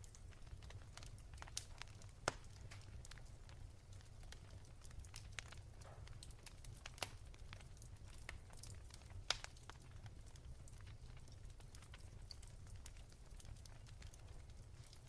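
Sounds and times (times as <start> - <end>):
low steady fire rumble: 0.0 - 15.0
wood fire crackling and popping: 0.0 - 15.0.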